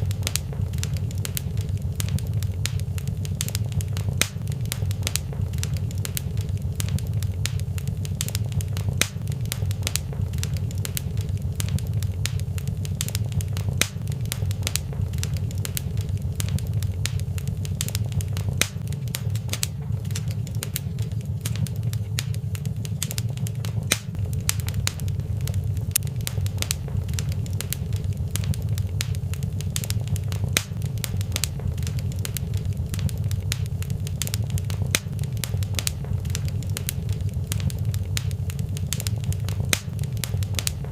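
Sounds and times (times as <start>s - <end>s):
fireplace fire crackling: 0.0s - 40.9s.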